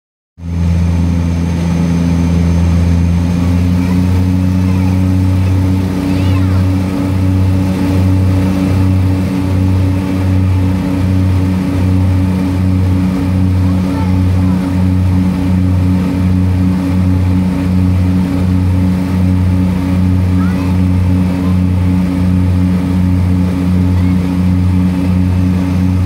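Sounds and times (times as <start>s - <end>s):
propeller engines droning: 0.4s - 26.0s.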